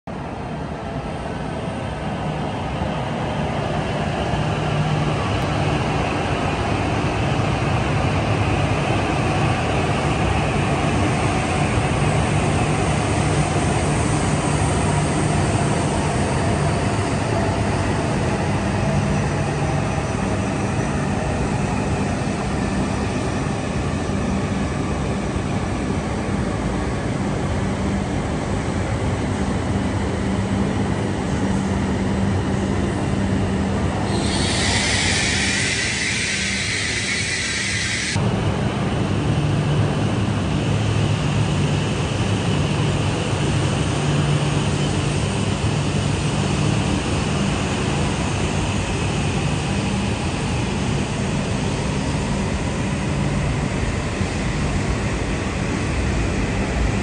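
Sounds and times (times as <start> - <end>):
train rumbling on rails: 0.1 - 57.0.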